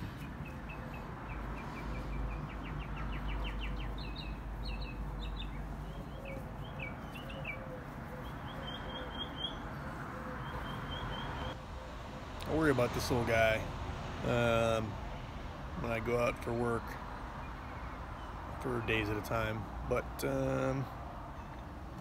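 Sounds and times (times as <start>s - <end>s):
songbird singing: 0.0s - 13.6s, 15.8s - 21.8s.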